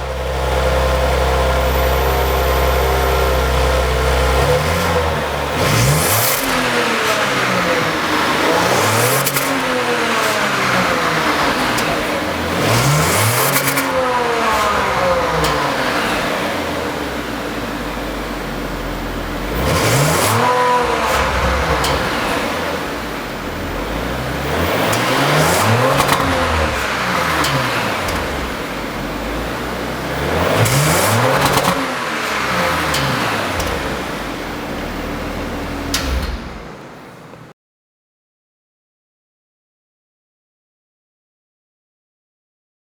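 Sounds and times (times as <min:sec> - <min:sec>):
car engine revving: 0:00.0 - 0:37.5.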